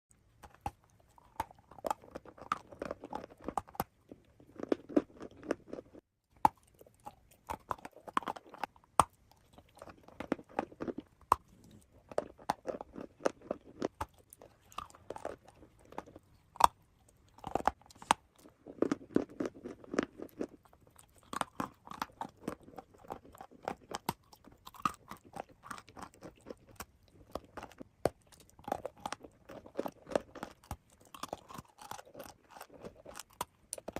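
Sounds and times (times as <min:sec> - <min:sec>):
crunchy biting and chewing: 0:00.3 - 0:33.9.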